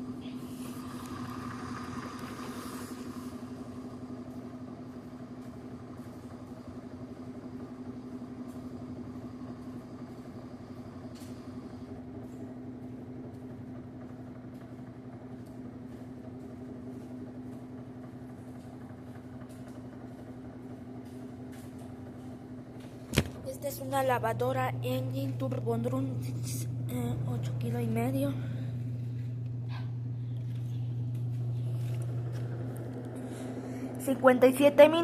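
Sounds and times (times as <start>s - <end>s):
washing machine spin cycle hum: 0.0s - 35.0s.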